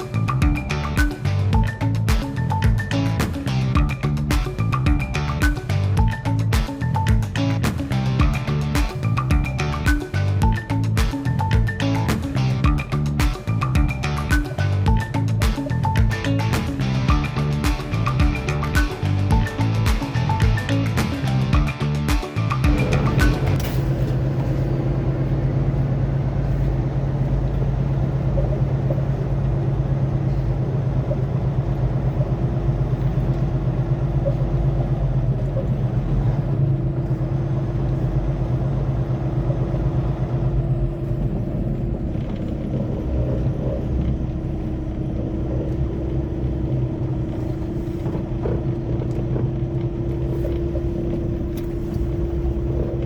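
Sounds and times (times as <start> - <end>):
road noise: 0.0 - 53.0
truck engine drone: 0.0 - 53.0.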